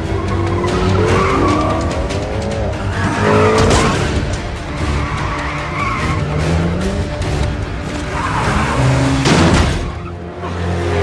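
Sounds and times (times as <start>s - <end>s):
car engines running hard: 0.0s - 11.0s
film score: 0.0s - 11.0s.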